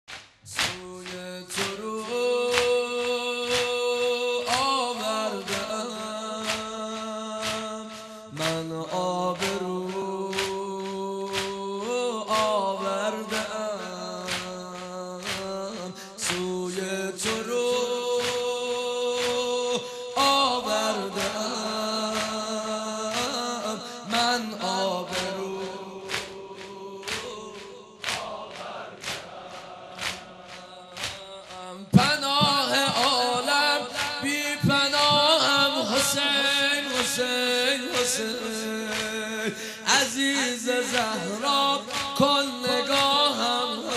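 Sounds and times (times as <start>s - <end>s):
sharp rhythmic beats: 0.1s - 43.9s
man chanting a lament: 0.5s - 43.9s.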